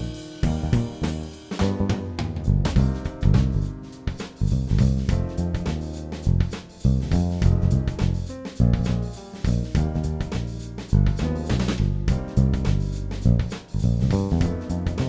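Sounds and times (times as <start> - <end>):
jazzy guitar and drums music: 0.0 - 15.0.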